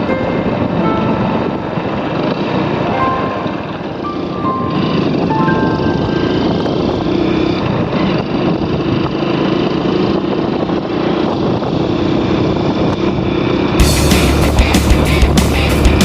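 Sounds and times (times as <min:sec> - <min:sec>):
motorcycle running: 0:00.0 - 0:16.0.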